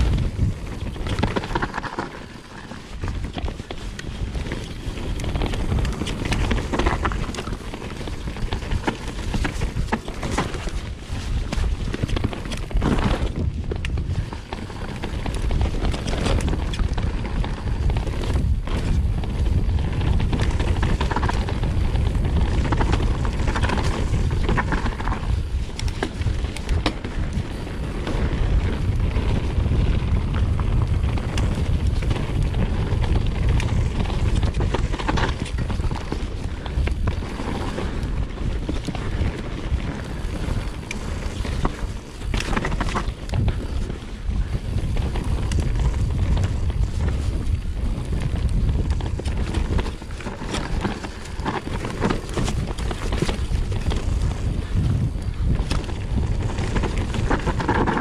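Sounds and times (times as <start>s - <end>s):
bike knocking and rattling: 0.0s - 58.0s
wind buffeting microphone: 0.0s - 58.0s.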